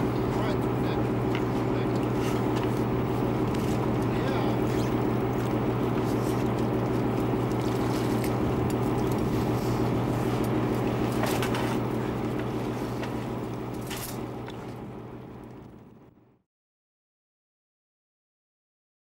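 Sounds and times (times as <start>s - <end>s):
boat engine humming: 0.0s - 16.3s.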